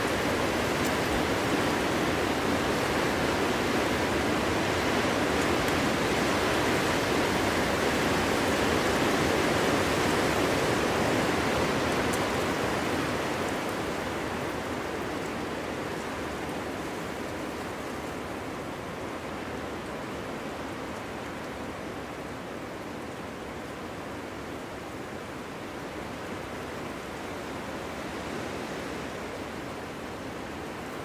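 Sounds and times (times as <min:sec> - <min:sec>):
wind blowing through forest: 0:00.0 - 0:31.0.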